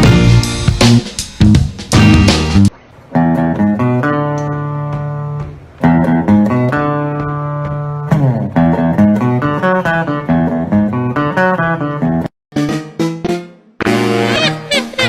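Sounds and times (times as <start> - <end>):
plucked guitar music: 2.0 - 15.0.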